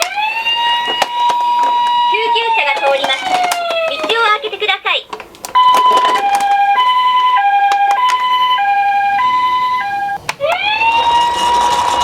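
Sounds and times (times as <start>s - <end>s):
rising siren wail: 0.0s - 4.0s, 5.6s - 12.0s
two-tone ambulance siren: 0.0s - 4.1s, 5.6s - 12.0s.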